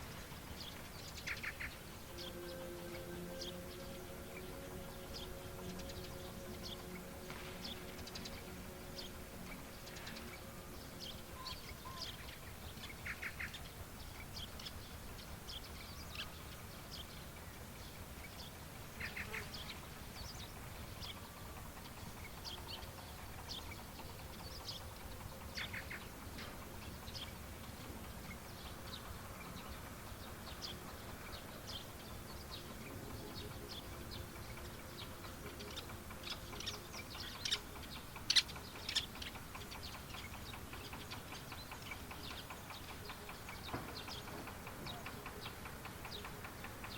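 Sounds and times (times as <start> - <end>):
faint low rumble: 0.0 - 37.7
birds chirping and calling: 0.0 - 46.9
buzzy bird trills: 0.0 - 46.9.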